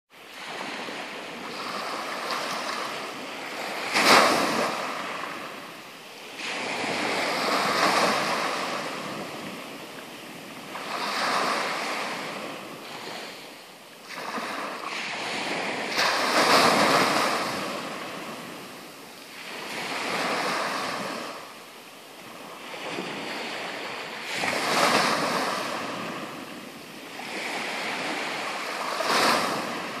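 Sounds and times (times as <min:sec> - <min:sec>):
waves washing up a pebble beach: 0:00.4 - 0:21.5, 0:22.2 - 0:30.0.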